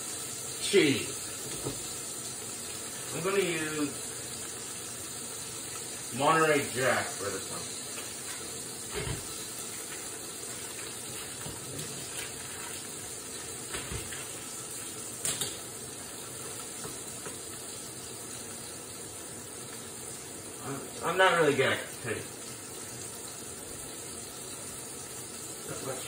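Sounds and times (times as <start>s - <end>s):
patty sizzling in frying pan: 0.0s - 26.0s.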